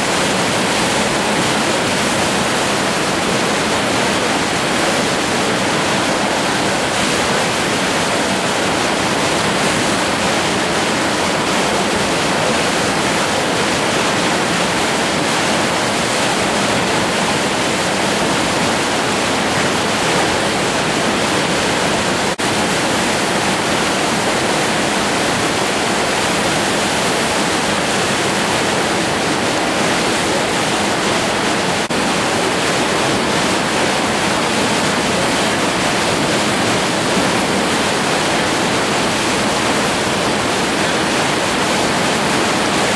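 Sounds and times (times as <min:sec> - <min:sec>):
whitewater rapids rushing: 0:00.0 - 0:42.9.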